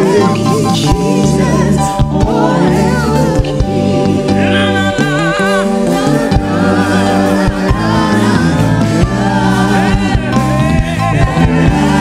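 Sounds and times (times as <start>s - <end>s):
keyboard chords: 0.0s - 12.0s
steady bass: 0.0s - 12.0s.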